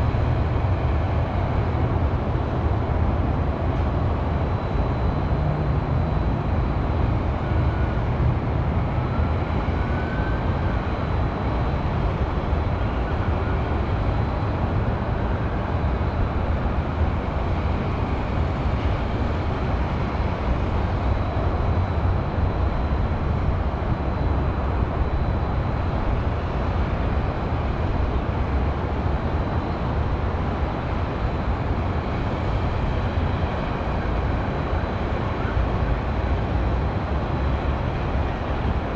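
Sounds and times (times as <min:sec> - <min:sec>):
highway traffic hum: 0:00.0 - 0:38.9.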